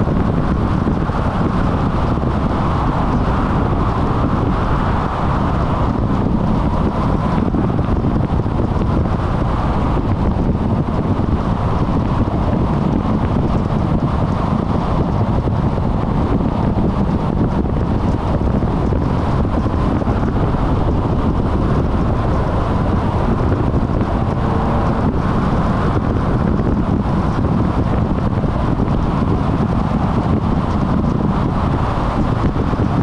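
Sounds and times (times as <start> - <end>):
car road noise: 0.0 - 33.0
wind buffeting microphone: 0.0 - 33.0.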